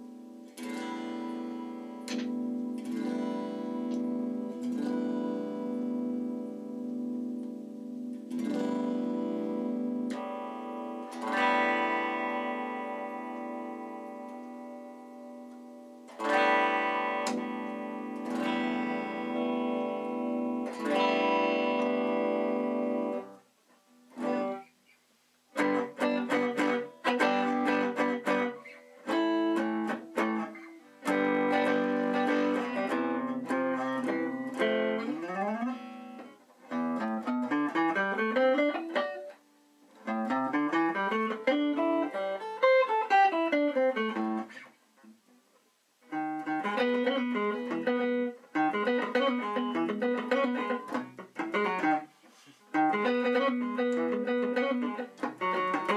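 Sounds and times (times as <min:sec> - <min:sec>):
electric guitar chords ringing: 0:00.0 - 0:23.4, 0:24.1 - 0:24.7, 0:25.5 - 0:44.7, 0:46.0 - 0:52.1, 0:52.7 - 0:55.9
electric guitar picked notes: 0:00.0 - 0:23.4, 0:24.0 - 0:24.8, 0:25.5 - 0:45.2, 0:46.0 - 0:55.9.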